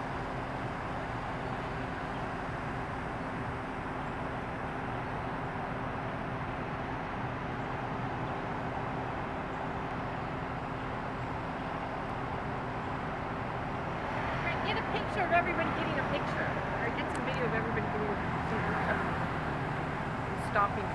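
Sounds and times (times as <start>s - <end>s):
traffic rumble and hiss: 0.0s - 20.9s.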